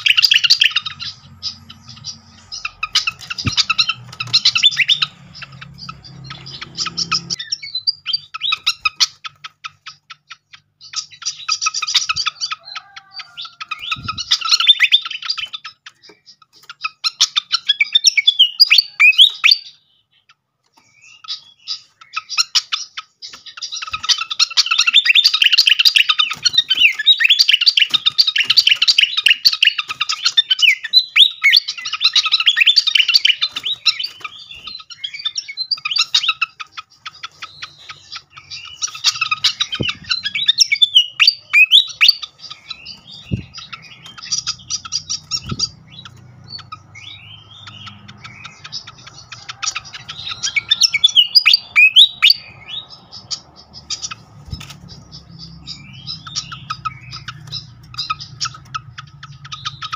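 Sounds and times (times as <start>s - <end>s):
bird twittering: 0.0s - 59.9s.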